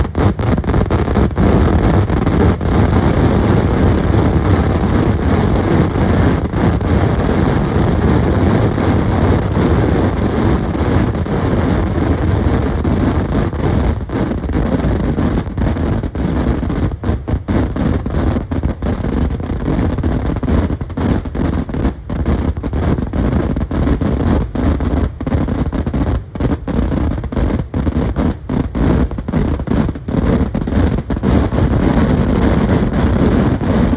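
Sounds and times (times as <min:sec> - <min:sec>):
dense fireworks explosions: 0:00.0 - 0:33.9.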